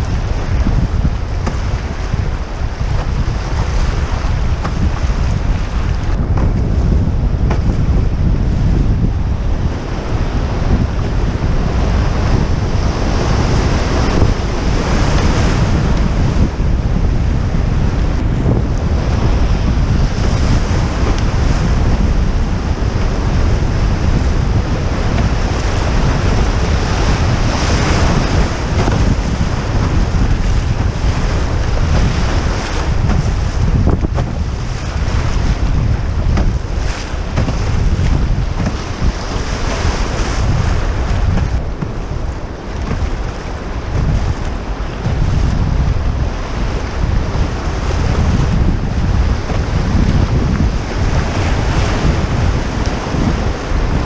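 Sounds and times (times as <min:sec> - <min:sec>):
whitewater rushing: 0:00.0 - 0:54.0
wind buffeting microphone: 0:00.0 - 0:54.0.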